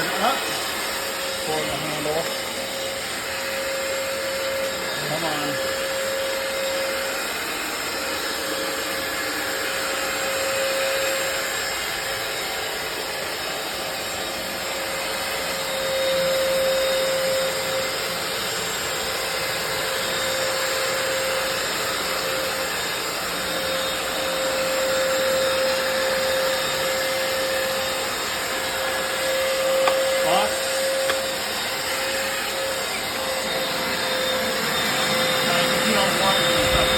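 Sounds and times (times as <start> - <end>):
floor cleaner motor whine: 0.0 - 36.9.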